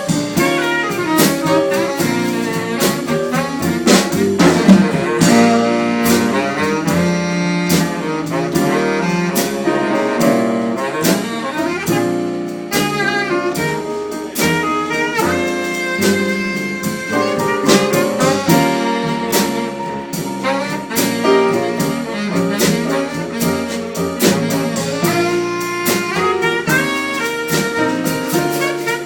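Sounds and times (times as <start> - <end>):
drum kit steady beat: 0.0 - 29.0
jazz melody: 0.0 - 29.0.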